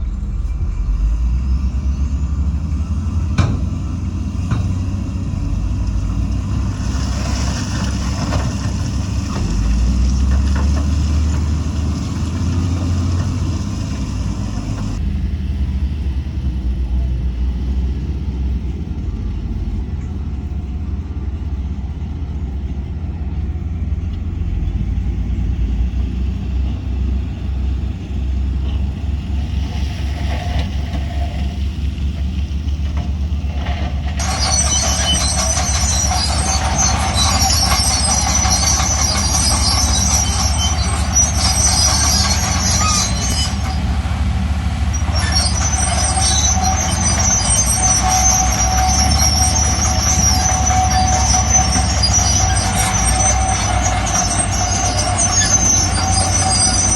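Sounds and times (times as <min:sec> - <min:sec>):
diesel machinery engine running: 0:00.0 - 0:56.9.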